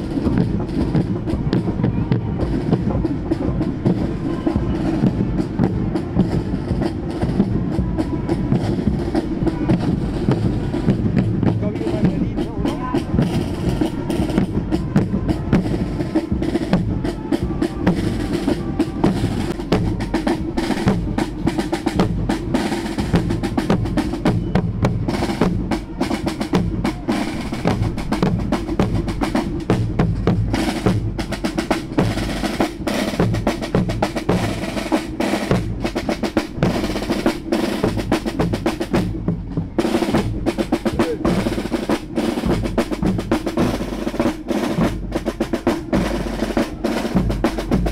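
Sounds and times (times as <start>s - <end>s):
marching field drums: 0.0s - 47.9s.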